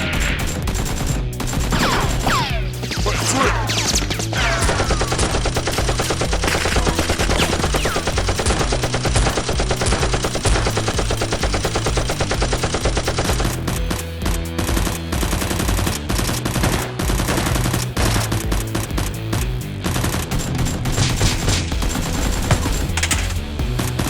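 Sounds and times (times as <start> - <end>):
automatic gunfire: 0.0 - 2.5, 4.5 - 24.0
background music: 0.0 - 24.0.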